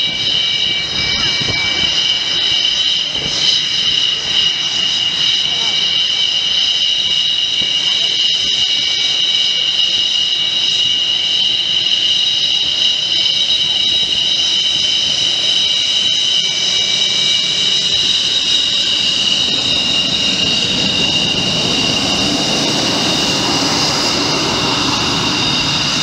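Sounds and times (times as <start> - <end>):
jet engine whine: 0.0 - 26.0
jet exhaust rumble: 0.0 - 26.0.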